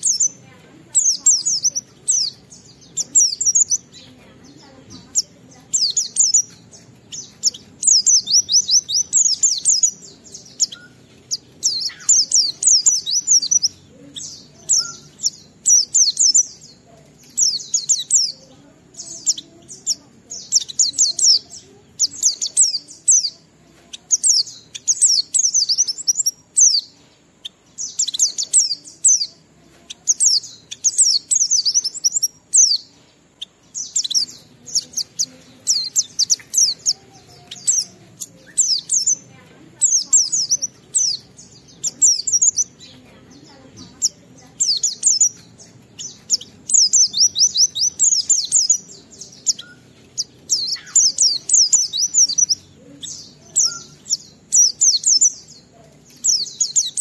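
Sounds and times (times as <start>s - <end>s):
bird high-pitched twittering song: 0.0s - 57.0s.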